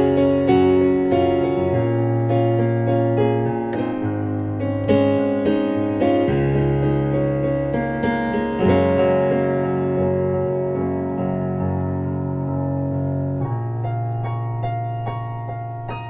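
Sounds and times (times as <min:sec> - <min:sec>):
keyboard chords over bass: 0:00.0 - 0:16.0.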